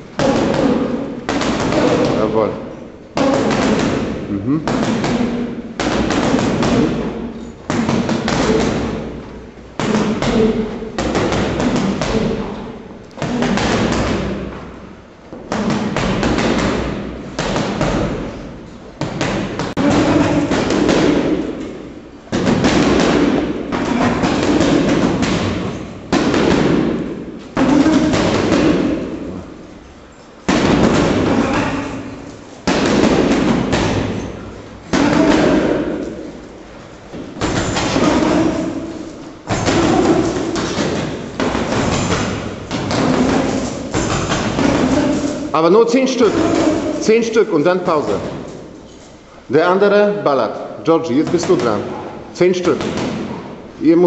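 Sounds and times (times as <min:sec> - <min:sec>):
gloves pounding heavy punching bag: 0:00.1 - 0:02.5, 0:03.2 - 0:29.3, 0:30.4 - 0:36.4, 0:37.1 - 0:47.3, 0:51.0 - 0:53.6.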